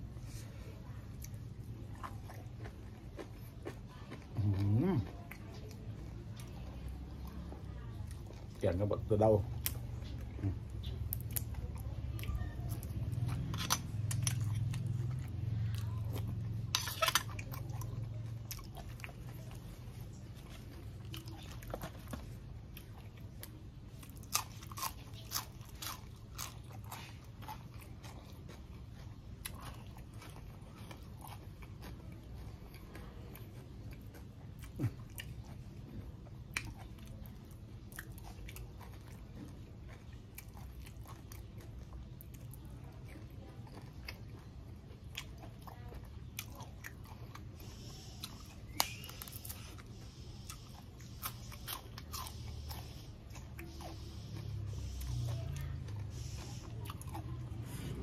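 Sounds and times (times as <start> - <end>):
man chewing crunchy food: 0.0 - 58.0.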